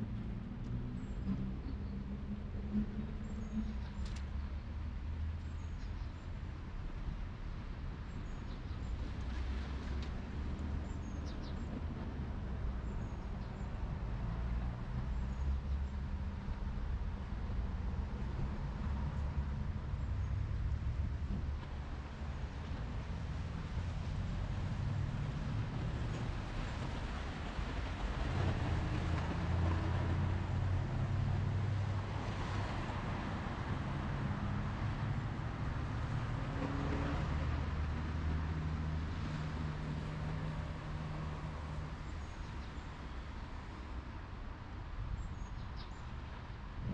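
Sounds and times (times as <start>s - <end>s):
vehicle engines passing: 0.0s - 5.4s, 9.0s - 46.9s.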